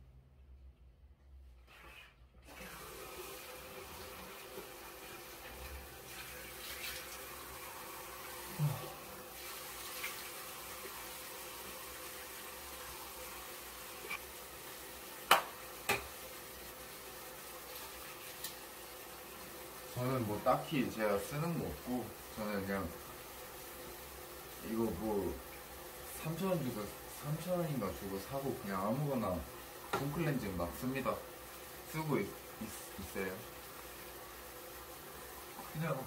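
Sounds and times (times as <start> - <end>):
tap water running: 1.6 - 36.0.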